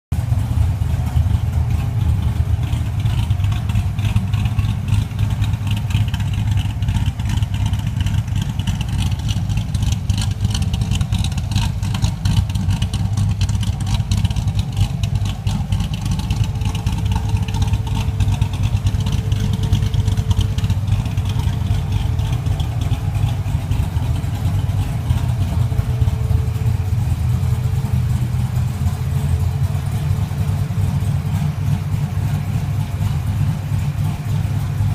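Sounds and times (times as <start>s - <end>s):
car engine idling roughly: 0.1s - 34.9s.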